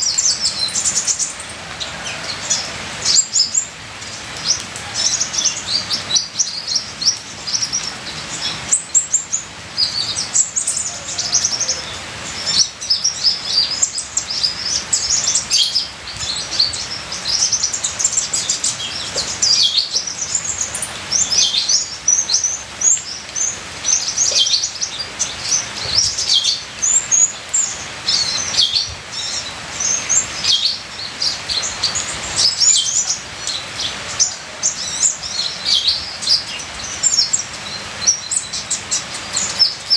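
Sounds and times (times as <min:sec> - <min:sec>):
rain water trickling: 0:00.0 - 0:39.9
sunbird chirping and twittering: 0:00.0 - 0:39.9.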